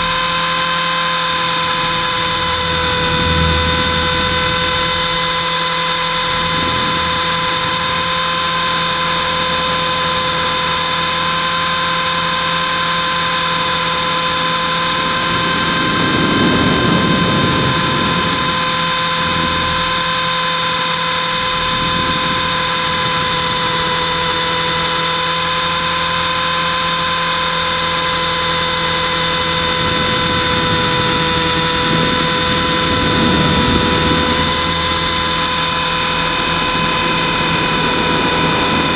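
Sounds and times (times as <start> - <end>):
rc helicopter motor whine: 0.0 - 38.9
rushing noise: 0.0 - 38.9.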